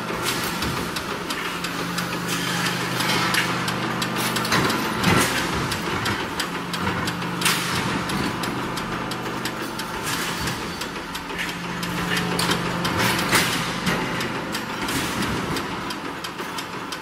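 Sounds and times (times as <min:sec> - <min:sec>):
motor and flywheel hum: 0:00.0 - 0:17.0.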